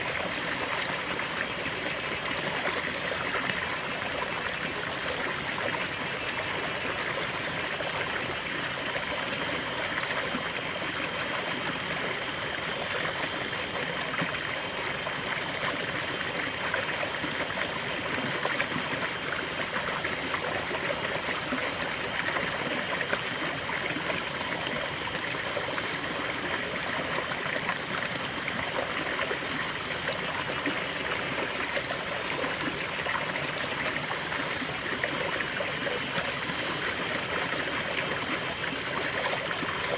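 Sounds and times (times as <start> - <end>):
waterfall and stream flowing: 0.0 - 39.9.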